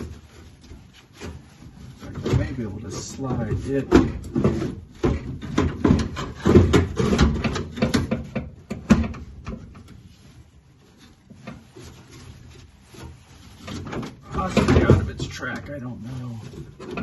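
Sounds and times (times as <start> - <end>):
metal clunks and scraping: 0.0 - 17.0.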